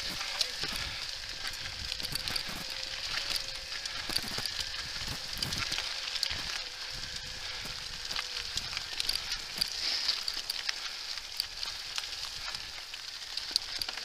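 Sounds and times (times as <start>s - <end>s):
bike tyres crackling over grit: 0.0s - 14.0s
faint steady whine: 0.0s - 14.0s
small clicks and rattles: 0.0s - 14.0s.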